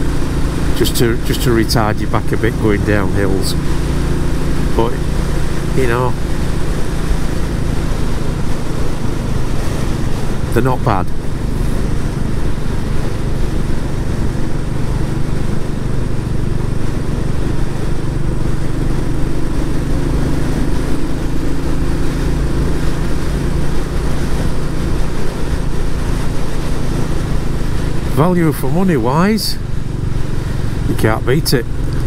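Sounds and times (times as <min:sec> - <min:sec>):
motorcycle engine cruising: 0:00.0 - 0:32.0
wind and road noise: 0:00.0 - 0:32.0.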